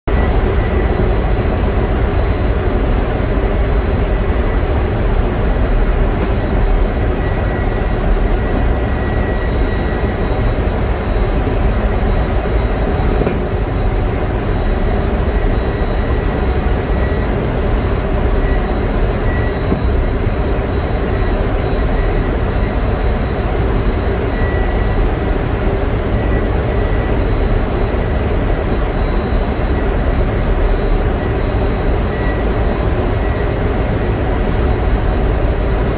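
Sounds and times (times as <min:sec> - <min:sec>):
diesel generator droning: 0:00.1 - 0:35.9
faint steady whines: 0:00.1 - 0:35.9.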